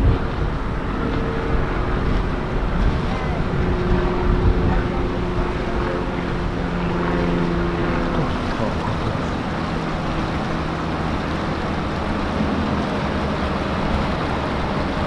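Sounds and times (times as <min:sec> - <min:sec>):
motorboat engine passing: 0:00.0 - 0:15.0
steady wash of noise: 0:00.0 - 0:15.0.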